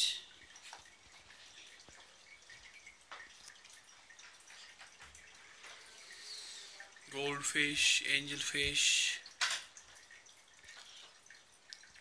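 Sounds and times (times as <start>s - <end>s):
small water plinks: 0.0s - 12.0s
water trickling and dripping: 0.0s - 12.0s.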